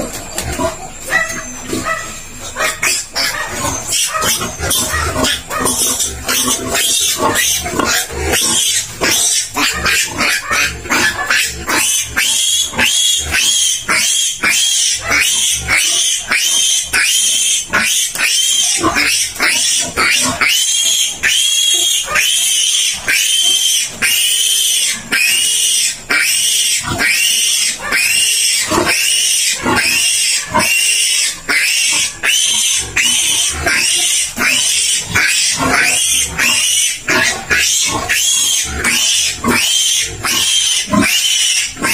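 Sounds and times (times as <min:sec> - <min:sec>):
piglet squealing: 0:00.6 - 0:41.9.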